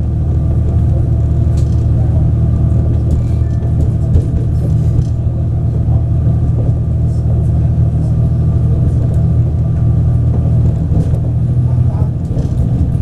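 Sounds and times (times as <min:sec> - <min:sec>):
diesel engine drone: 0:00.0 - 0:13.0
wheel and track rumble: 0:00.0 - 0:13.0.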